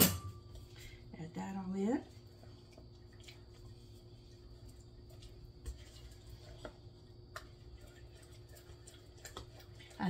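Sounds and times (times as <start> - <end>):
spatula stirring thick filling: 0.5 - 10.0.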